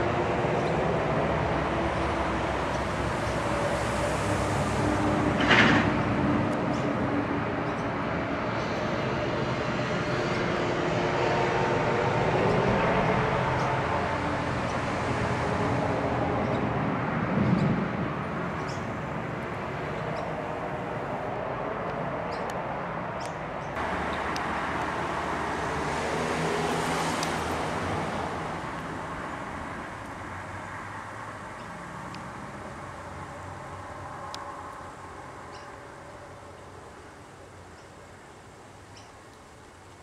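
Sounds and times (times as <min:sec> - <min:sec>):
road traffic: 0:00.0 - 0:40.0.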